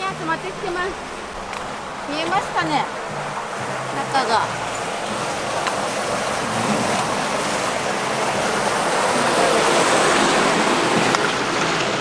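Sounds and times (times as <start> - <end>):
water gushing into drain: 0.0 - 12.0.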